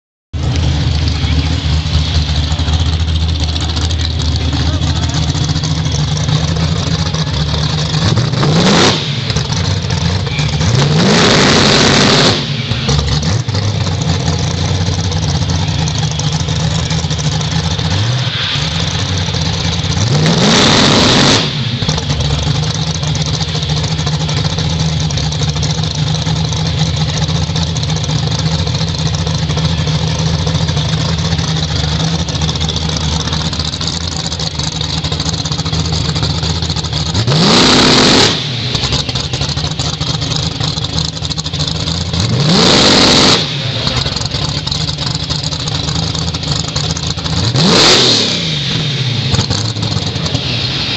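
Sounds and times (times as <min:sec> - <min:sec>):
car engine idling and revving: 0:00.3 - 0:50.9.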